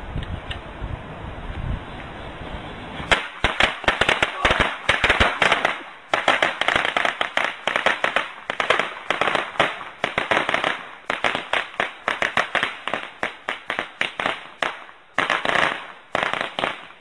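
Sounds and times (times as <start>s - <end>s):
firecrackers banging: 2.5s - 17.0s.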